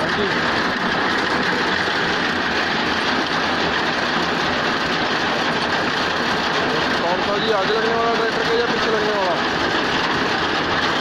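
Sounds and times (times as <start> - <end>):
reaper mechanical clatter: 0.0 - 11.0
tractor engine running: 0.0 - 11.0.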